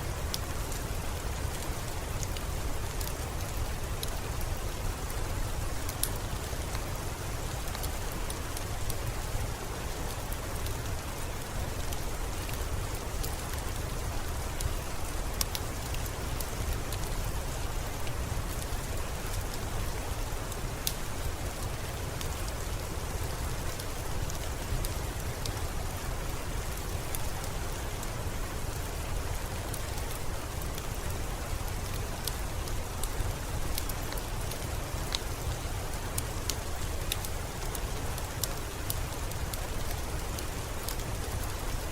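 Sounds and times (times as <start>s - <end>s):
steady rain falling: 0.0s - 41.9s
wood fire crackling: 0.1s - 41.9s.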